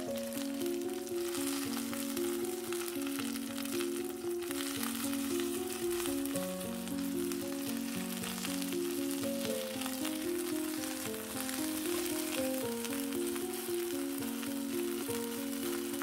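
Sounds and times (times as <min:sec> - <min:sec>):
background music with held notes: 0:00.0 - 0:16.0
fritters sizzling in a frying pan: 0:00.0 - 0:16.0.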